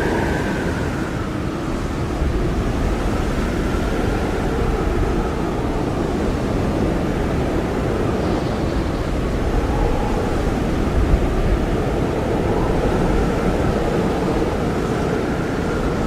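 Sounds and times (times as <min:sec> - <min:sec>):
strong blizzard wind: 0:00.0 - 0:16.0.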